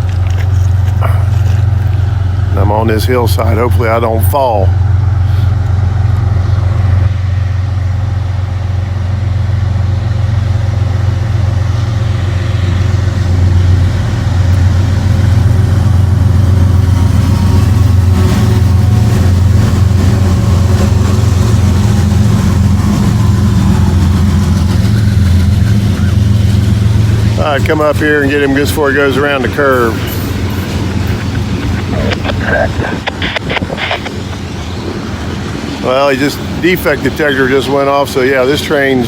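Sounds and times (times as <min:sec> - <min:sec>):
locomotive engine drone: 0:00.0 - 0:39.0.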